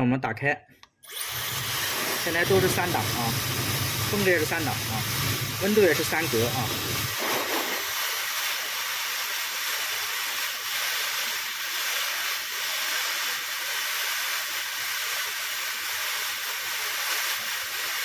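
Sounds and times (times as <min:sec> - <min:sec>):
hair dryer running: 0:01.0 - 0:18.0.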